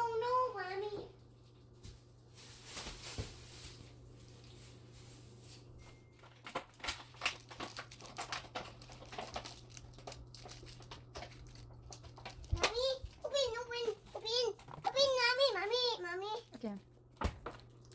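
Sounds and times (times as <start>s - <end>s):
crinkling and rustling: 0.8s - 17.9s.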